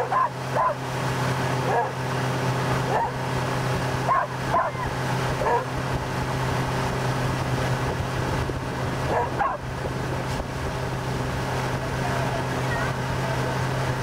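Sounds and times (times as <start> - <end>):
boat wake rushing: 0.0 - 14.0
motorboat engine running: 0.0 - 14.0.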